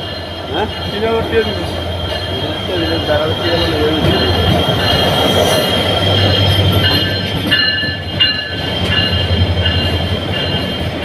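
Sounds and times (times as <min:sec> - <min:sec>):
high ringing tones: 0:00.0 - 0:11.0
train rumble and hum: 0:00.0 - 0:11.0.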